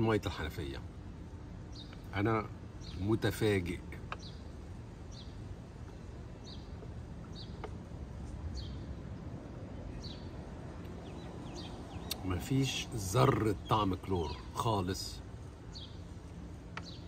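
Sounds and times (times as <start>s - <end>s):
low steady rumble: 0.0s - 17.0s
small bird chirping: 1.6s - 17.0s.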